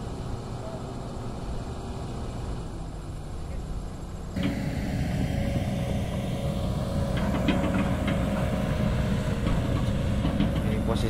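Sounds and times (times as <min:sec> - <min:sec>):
diesel engine rumble: 0:00.0 - 0:11.0
faint steady whine: 0:00.0 - 0:11.0.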